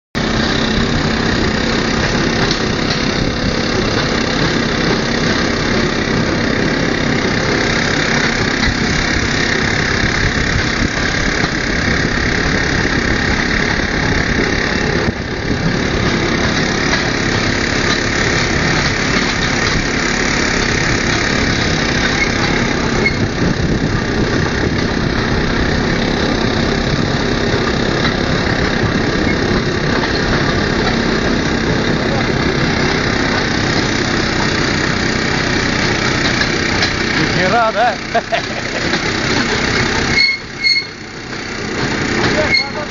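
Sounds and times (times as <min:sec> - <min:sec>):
rail running noise: 0:00.2 - 0:42.9
rail vehicle engine droning: 0:00.2 - 0:42.9.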